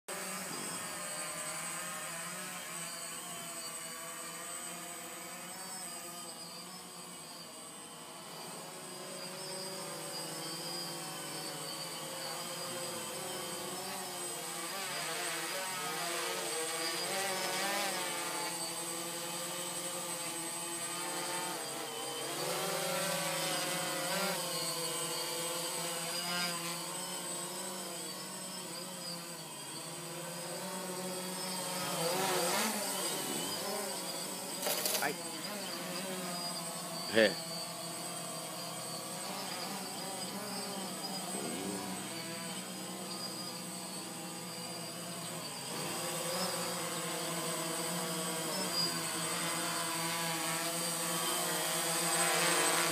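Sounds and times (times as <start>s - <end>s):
drone propellers buzzing: 0.1s - 52.9s.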